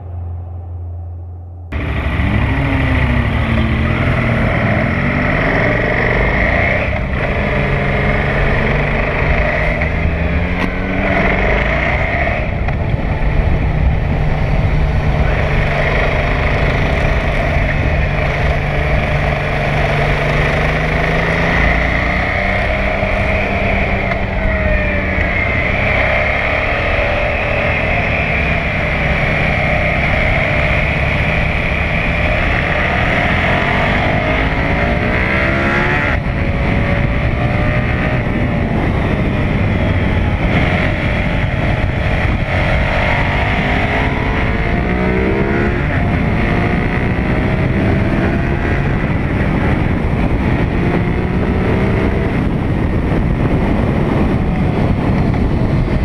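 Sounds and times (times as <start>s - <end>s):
motorcycle engine revving: 1.7s - 56.0s.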